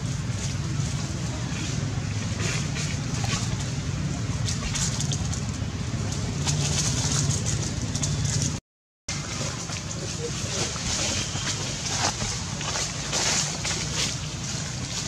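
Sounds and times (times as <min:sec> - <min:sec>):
dry leaves rustling and crackling: 0:00.0 - 0:15.0.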